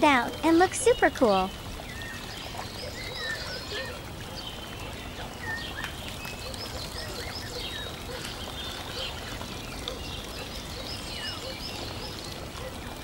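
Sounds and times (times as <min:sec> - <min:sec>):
birds chirping: 0:00.0 - 0:13.0
flowing water rushing: 0:00.0 - 0:13.0.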